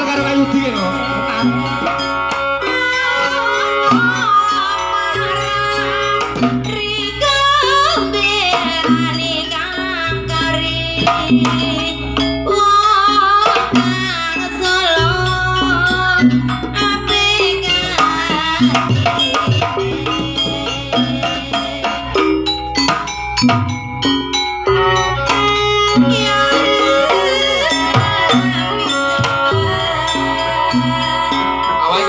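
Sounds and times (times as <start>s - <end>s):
hand drums playing: 0.0s - 32.0s
wavering melody line: 0.0s - 32.0s.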